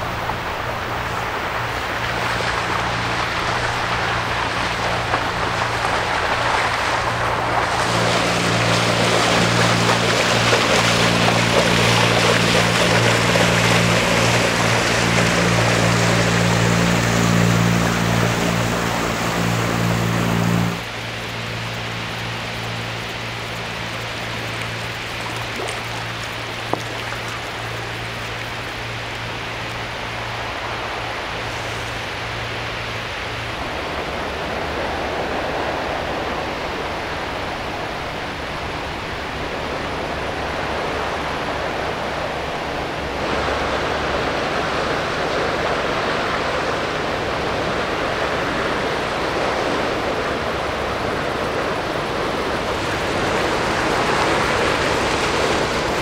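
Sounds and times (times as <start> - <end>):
rushing water: 0.0 - 56.0
ship engine hum: 0.0 - 56.0.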